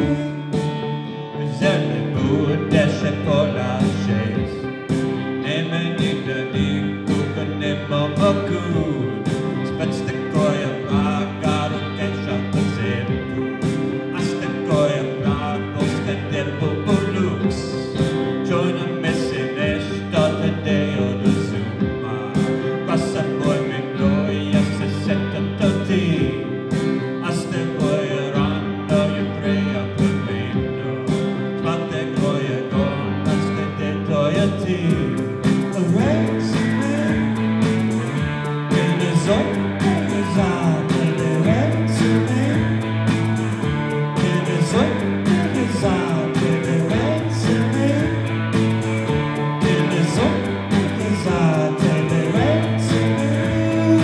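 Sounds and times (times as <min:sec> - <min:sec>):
electric guitars: 0:00.0 - 0:54.0
live band playing: 0:00.0 - 0:54.0
organ sustained chords: 0:00.0 - 0:54.0
person singing: 0:00.0 - 0:54.0.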